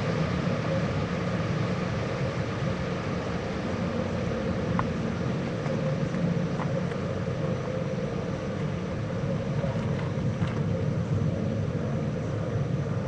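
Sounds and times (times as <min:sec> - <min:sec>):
faint hum: 0:00.0 - 0:13.0
low rumble and hiss: 0:00.0 - 0:13.0.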